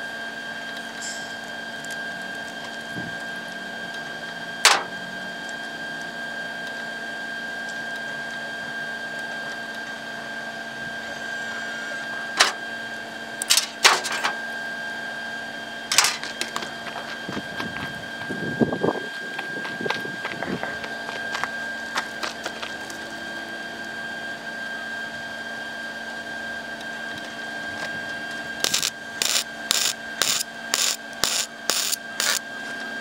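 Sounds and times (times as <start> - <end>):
welding machine whine: 0.0 - 33.0.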